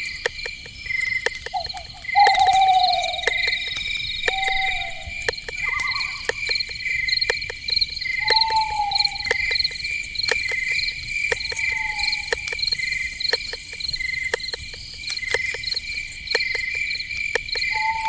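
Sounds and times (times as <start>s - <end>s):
crickets chirping: 0.0s - 18.0s
sharp clicks: 0.1s - 18.0s.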